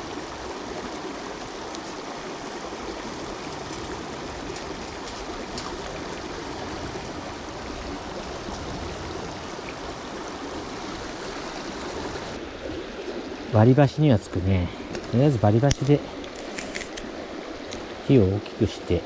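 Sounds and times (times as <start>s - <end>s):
river running over rocks: 0.0s - 19.0s.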